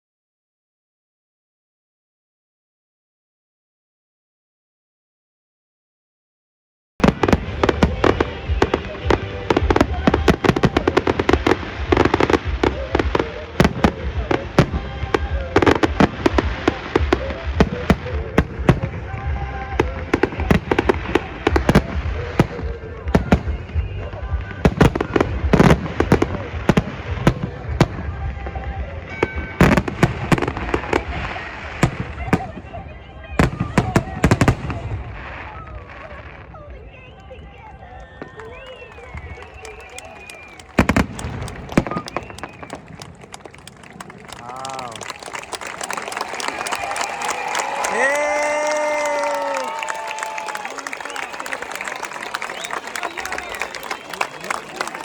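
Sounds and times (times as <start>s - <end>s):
fireworks crackling and banging: 7.0s - 55.0s.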